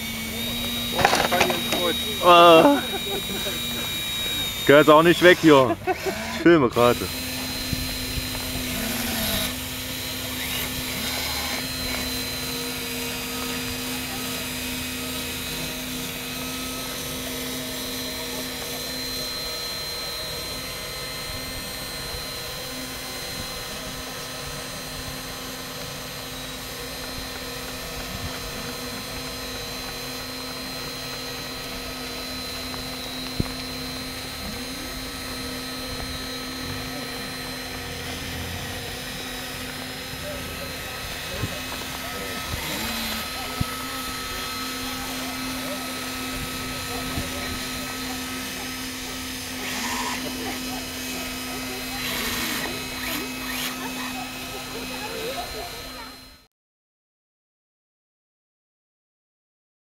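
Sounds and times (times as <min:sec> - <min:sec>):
electric motor and gearbox whining: 0:00.0 - 0:56.4.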